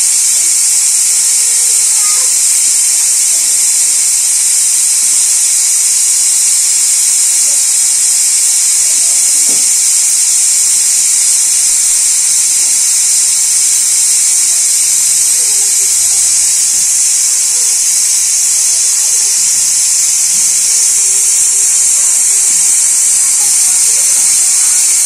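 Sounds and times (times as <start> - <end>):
pressure cooker hissing: 0.0 - 25.0.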